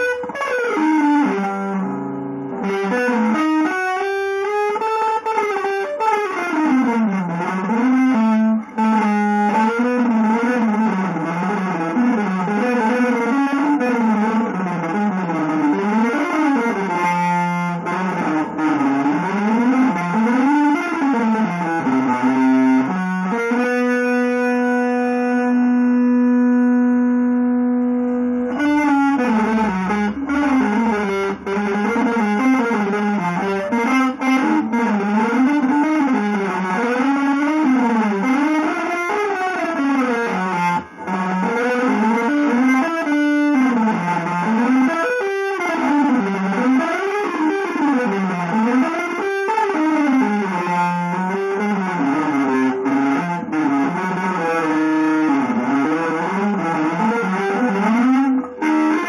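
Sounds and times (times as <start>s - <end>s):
distorted electric guitar sliding notes: 0.0s - 59.0s.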